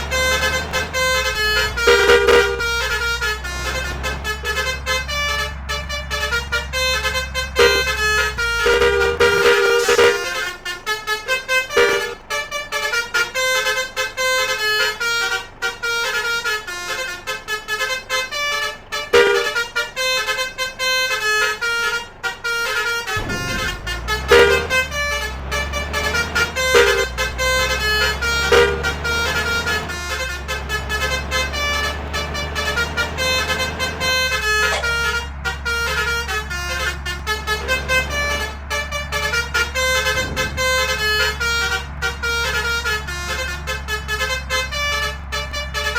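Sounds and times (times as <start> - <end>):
deep engine hum: 0.0 - 45.9
musical air horn tune: 0.0 - 45.9.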